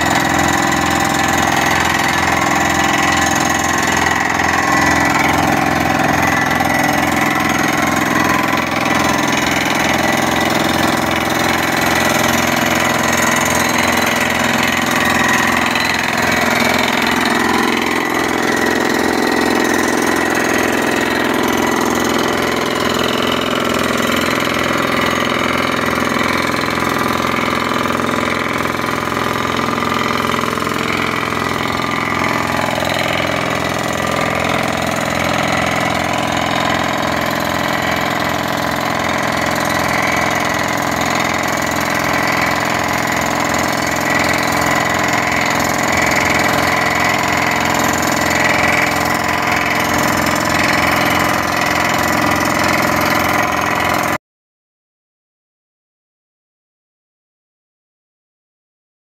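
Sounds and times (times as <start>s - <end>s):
drilling rig machinery pulsing: 0.0s - 54.2s.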